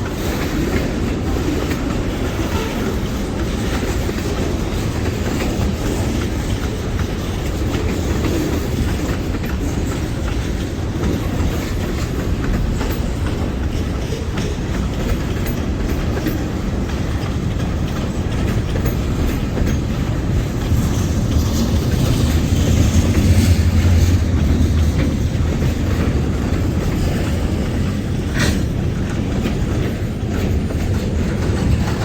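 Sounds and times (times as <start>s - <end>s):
freight train rumble: 0.0s - 32.0s
steel wheels clicking over rail joints: 0.0s - 32.0s.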